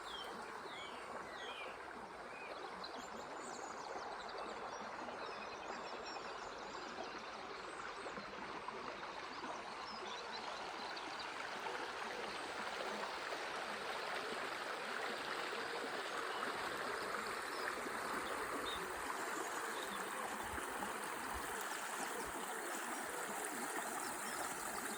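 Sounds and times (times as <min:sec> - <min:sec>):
river water babbling: 0:00.0 - 0:24.9.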